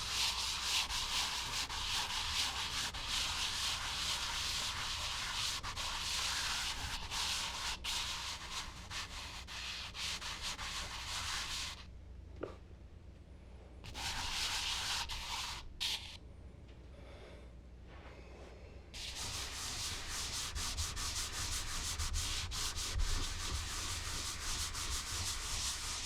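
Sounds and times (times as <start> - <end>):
charcoal scratching on paper: 0.0 - 11.8, 13.9 - 16.2, 19.0 - 26.0.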